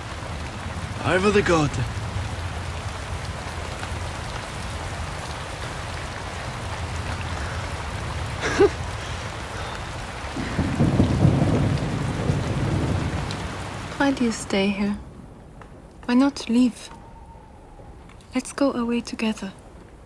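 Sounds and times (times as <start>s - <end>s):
steady rain falling: 0.0s - 20.0s
thunder rumbling: 0.0s - 20.0s.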